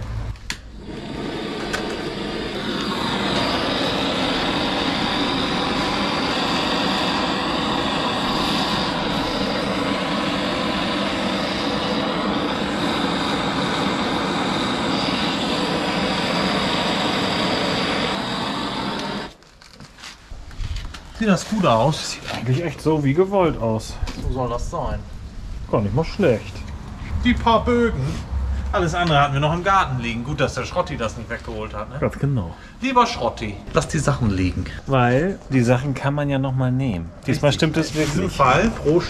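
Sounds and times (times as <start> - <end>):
gas torch flame burning: 0.0 - 36.4, 37.2 - 39.0.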